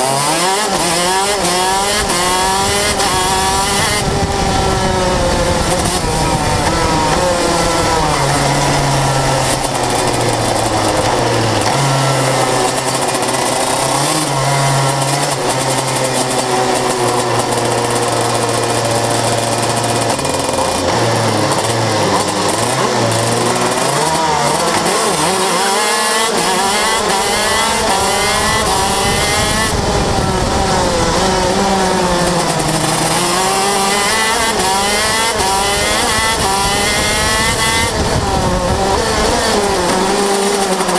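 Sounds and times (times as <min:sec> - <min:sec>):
kart two-stroke engine revving: 0:00.0 - 0:40.9.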